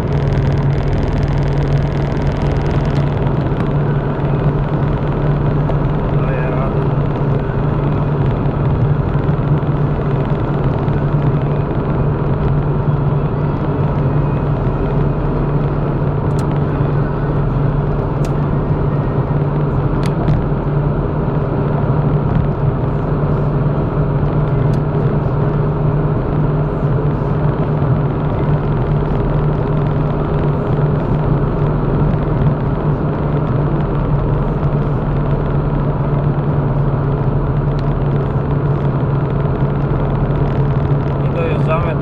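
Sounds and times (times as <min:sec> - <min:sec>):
in-cabin car drone: 0:00.0 - 0:42.0.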